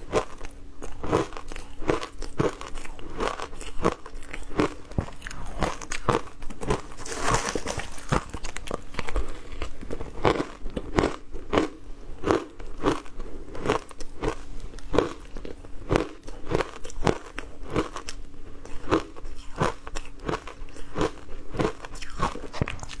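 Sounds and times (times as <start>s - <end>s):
chewing crushed ice: 0.0s - 23.0s.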